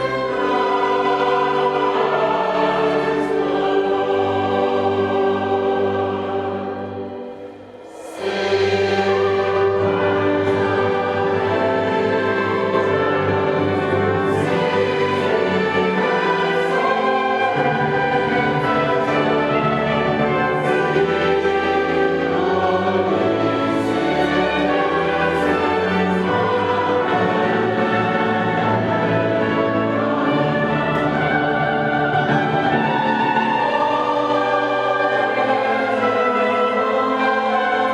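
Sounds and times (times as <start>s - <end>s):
choir singing with orchestra: 0.0s - 37.9s.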